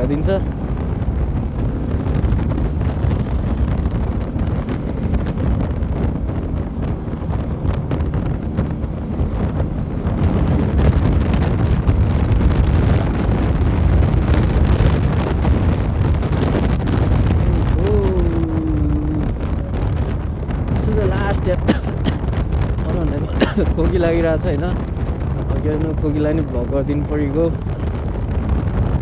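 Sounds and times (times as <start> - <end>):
low motorcycle ride rumble: 0.0 - 29.0
wind buffeting microphone: 0.0 - 29.0.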